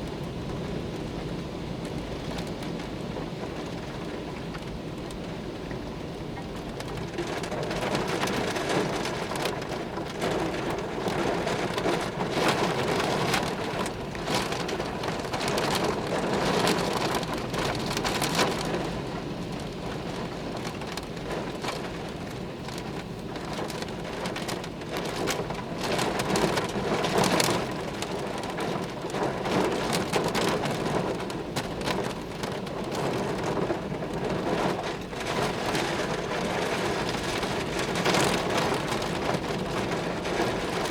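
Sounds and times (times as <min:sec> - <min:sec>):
gusting wind: 0:00.0 - 0:40.9
heavy rain pouring: 0:00.0 - 0:40.9.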